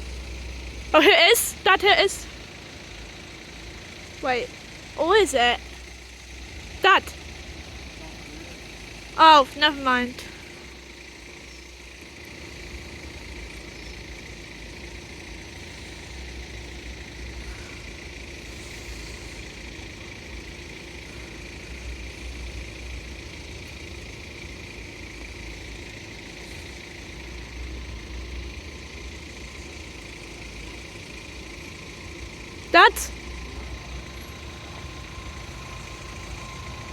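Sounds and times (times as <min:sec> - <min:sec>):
faint steady hum: 0:00.0 - 0:36.9
vehicle engines idling: 0:00.0 - 0:36.9.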